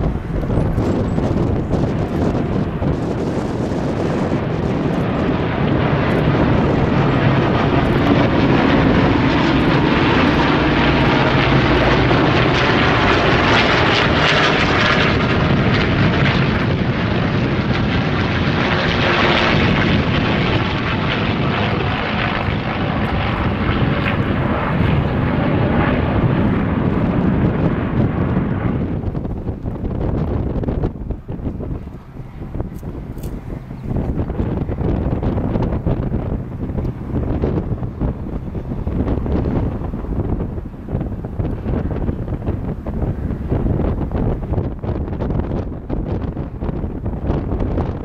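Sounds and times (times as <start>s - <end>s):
aircraft engine overhead: 0.0s - 48.0s.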